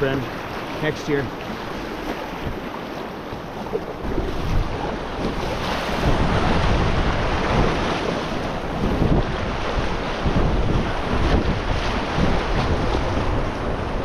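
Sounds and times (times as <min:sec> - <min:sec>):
river water rushing: 0:00.0 - 0:14.0
water splashing against kayak hull: 0:00.0 - 0:14.0
wind buffeting microphone: 0:00.0 - 0:14.0.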